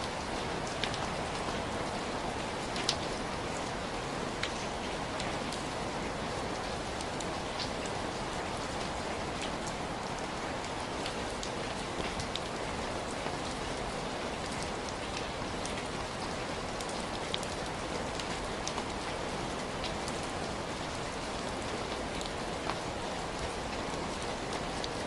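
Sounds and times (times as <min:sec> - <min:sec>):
heavy rain falling: 0:00.0 - 0:25.0
raindrops ticking on a surface: 0:00.0 - 0:25.0.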